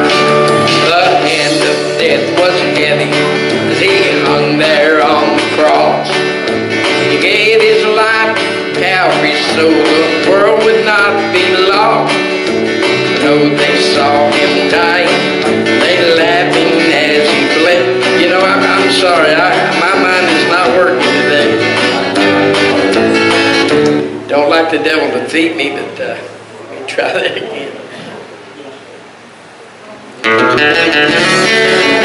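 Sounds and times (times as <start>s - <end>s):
country instrumental guitar music: 0.0s - 26.3s, 30.2s - 32.0s.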